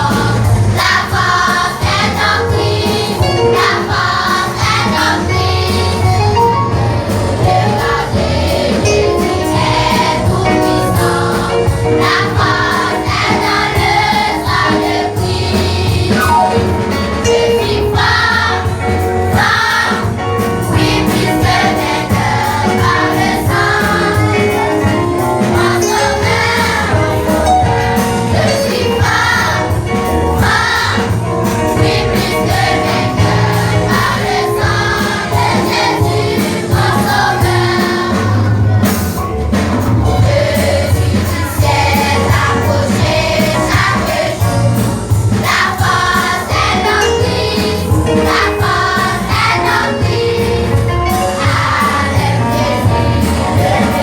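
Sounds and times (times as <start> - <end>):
choir singing a hymn: 0.0 - 54.0
instrumental accompaniment: 0.0 - 54.0.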